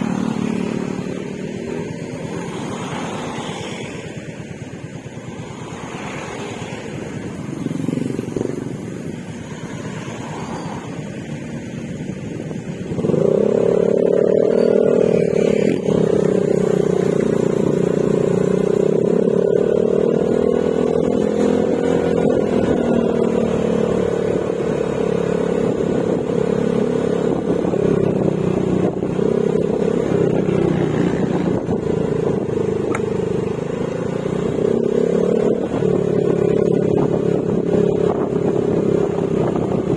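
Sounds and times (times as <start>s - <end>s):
scooter engine exhaust: 0.0s - 39.9s.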